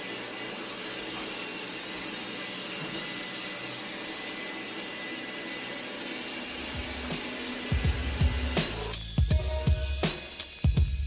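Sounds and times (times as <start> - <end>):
robot vacuum running: 0.0 - 11.0.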